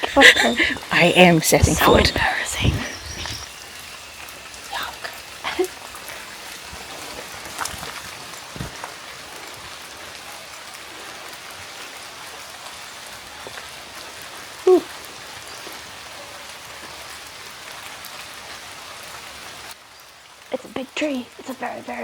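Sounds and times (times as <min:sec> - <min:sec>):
rain falling on foliage: 0:00.0 - 0:22.0.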